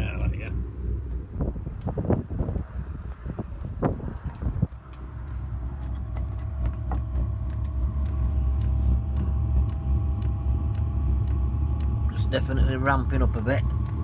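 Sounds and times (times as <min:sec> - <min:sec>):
fan whine: 0:00.0 - 0:14.0
fuel pump ticking: 0:00.0 - 0:14.0
heater combustion rumble: 0:00.0 - 0:14.0.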